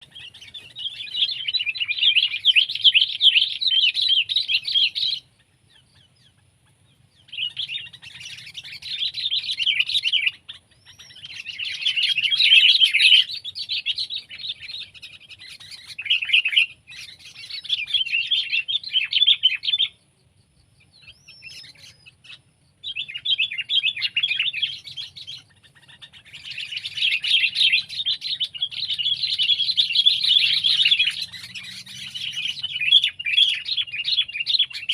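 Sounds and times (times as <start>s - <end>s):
bulbul chattering: 0.0s - 34.9s.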